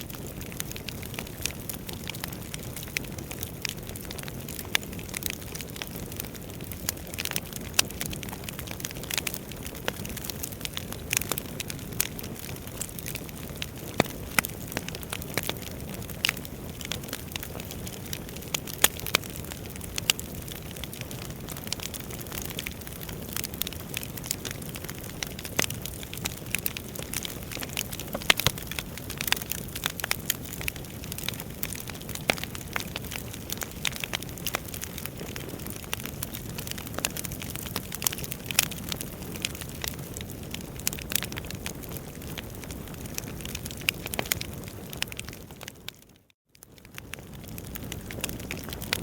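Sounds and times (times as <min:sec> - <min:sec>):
fire crackling in a fireplace: 0:00.0 - 0:49.0.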